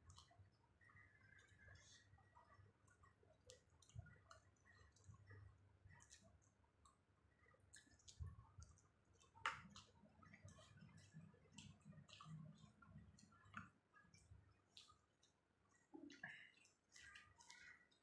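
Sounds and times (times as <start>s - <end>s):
mouth clicks and chewing: 0.0s - 18.0s.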